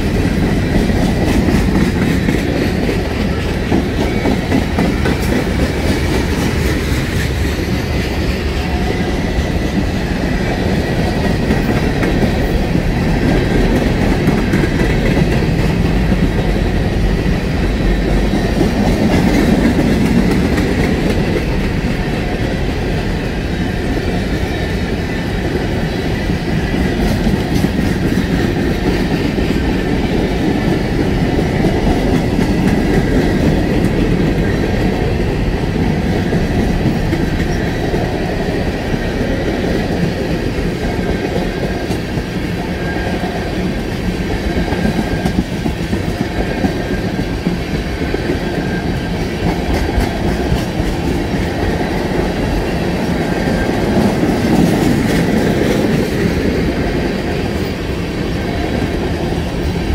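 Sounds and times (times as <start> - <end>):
freight train cars rolling: 0.0 - 59.9.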